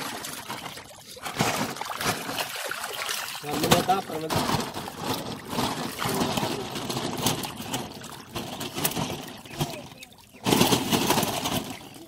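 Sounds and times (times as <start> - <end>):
fish thrashing and splashing: 0.0 - 12.0.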